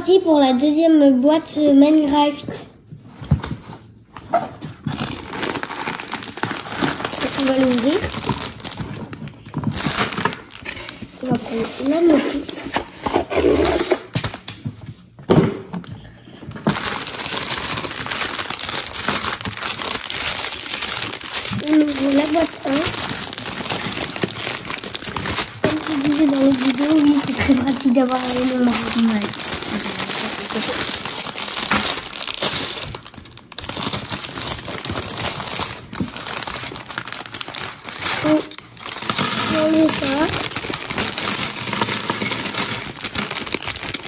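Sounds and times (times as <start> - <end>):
plastic bags crinkling: 3.4 - 12.7, 16.4 - 44.0.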